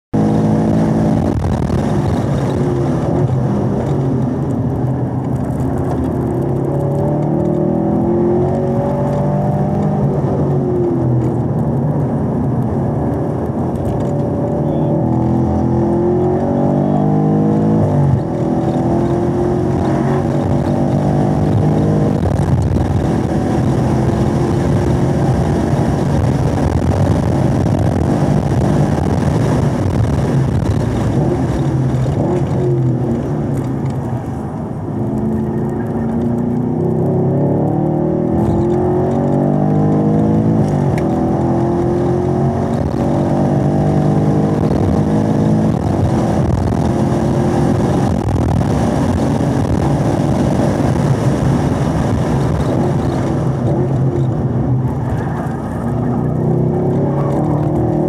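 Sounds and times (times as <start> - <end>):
car engine revving: 0.1 - 58.0.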